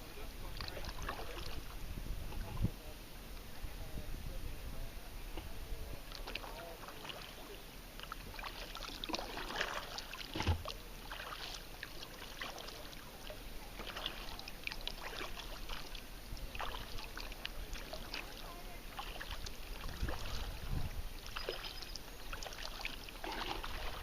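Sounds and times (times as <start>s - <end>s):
paddle splashing in water: 0.4s - 2.6s, 6.0s - 24.0s.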